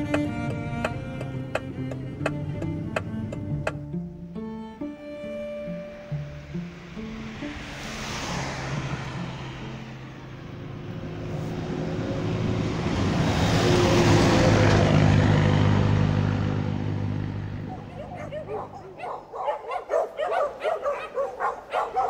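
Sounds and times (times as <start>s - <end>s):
car driving by: 0.0s - 22.0s.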